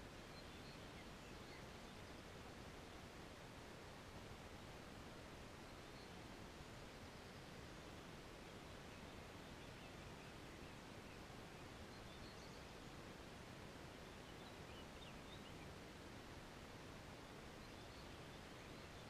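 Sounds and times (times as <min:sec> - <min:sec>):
faint outdoor air hiss: 0:00.0 - 0:19.0.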